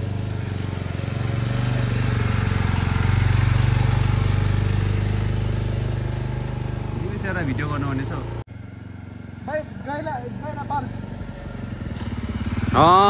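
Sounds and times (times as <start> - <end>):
motorcycle engine passing by: 0.0 - 13.0.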